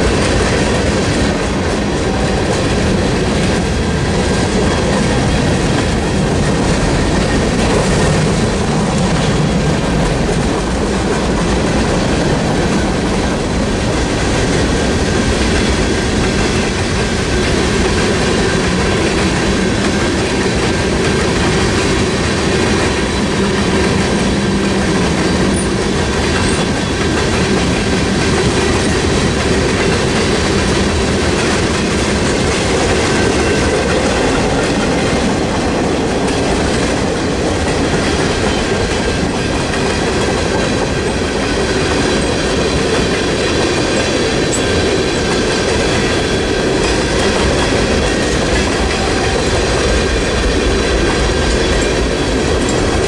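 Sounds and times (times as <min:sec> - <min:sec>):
steel wheels running on rails: 0:00.0 - 0:53.0.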